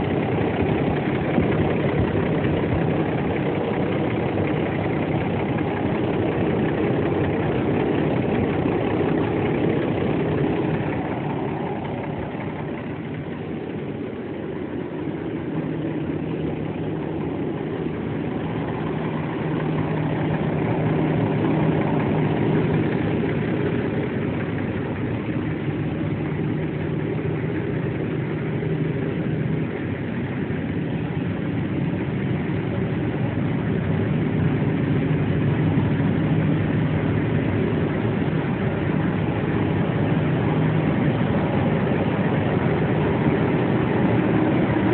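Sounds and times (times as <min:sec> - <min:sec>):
diesel truck engine idling: 0:00.0 - 0:44.9.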